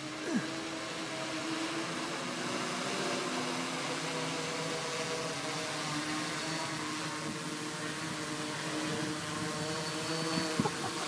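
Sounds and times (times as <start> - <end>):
multicopter propellers whirring: 0.0 - 11.0.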